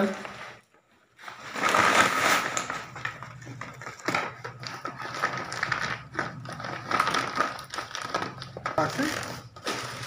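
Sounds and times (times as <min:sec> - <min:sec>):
plastic sack crinkling: 0:00.0 - 0:10.0.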